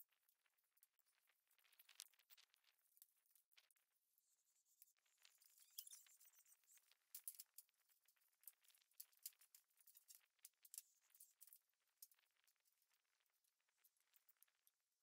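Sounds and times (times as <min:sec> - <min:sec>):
light ticks and clicks: 0:00.0 - 0:04.0, 0:04.7 - 0:15.0.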